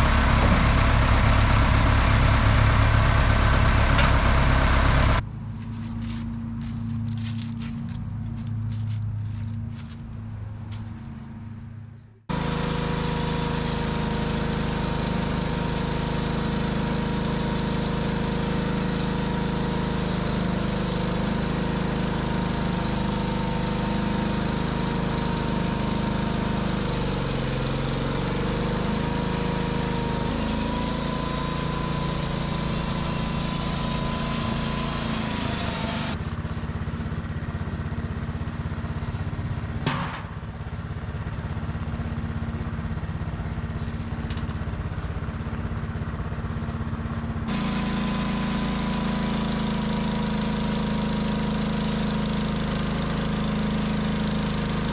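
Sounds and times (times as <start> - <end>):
small petrol engine running: 0.0 - 10.0, 12.3 - 54.9.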